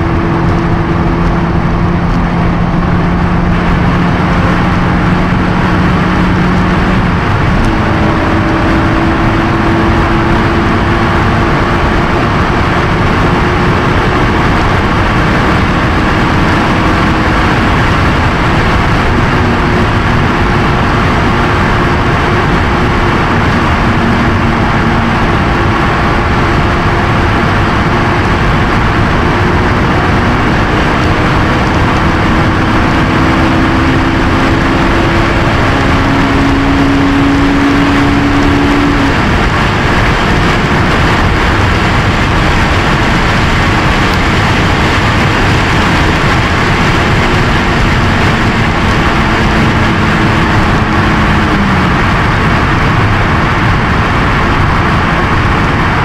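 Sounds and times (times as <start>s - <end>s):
car engine at high speed: 0.0s - 56.0s
wind and road noise: 0.0s - 56.0s.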